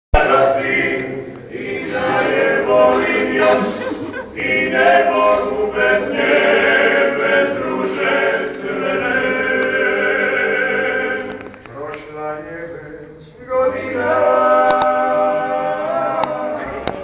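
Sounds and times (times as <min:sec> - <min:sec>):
group singing a cappella: 0:00.1 - 0:17.0.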